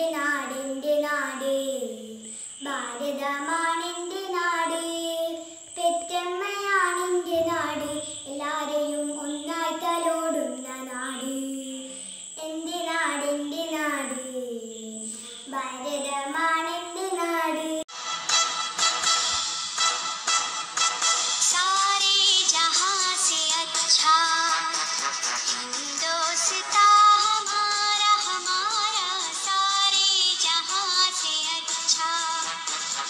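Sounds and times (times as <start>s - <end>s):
girl singing: 0.0s - 17.9s, 21.4s - 33.0s.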